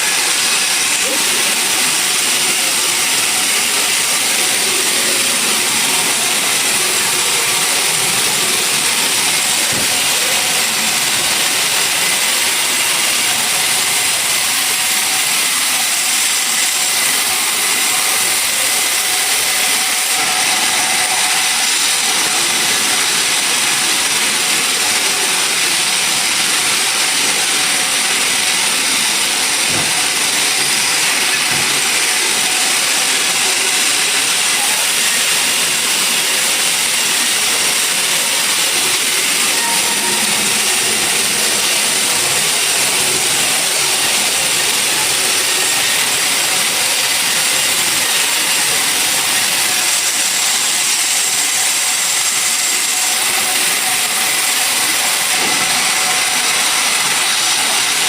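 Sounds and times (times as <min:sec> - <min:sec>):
sawmill machinery whirring: 0:00.0 - 0:58.0.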